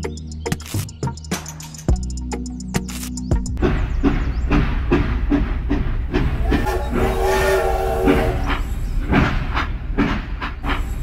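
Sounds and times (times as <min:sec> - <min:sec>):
regular clicking of train: 0:00.6 - 0:11.0.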